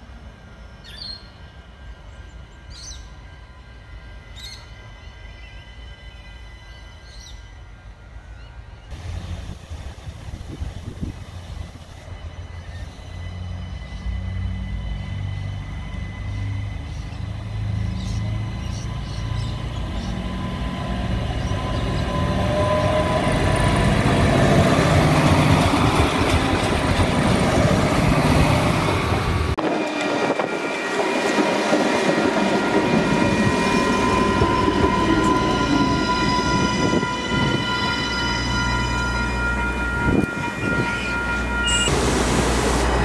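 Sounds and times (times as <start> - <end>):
railcar passing: 0.0 - 43.0.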